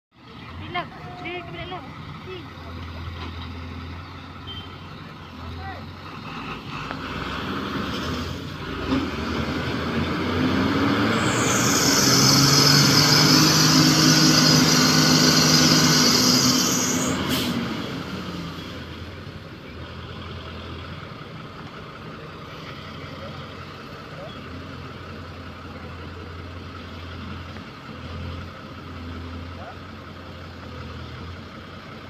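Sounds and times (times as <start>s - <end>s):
diesel engines working hard: 0.1s - 32.0s.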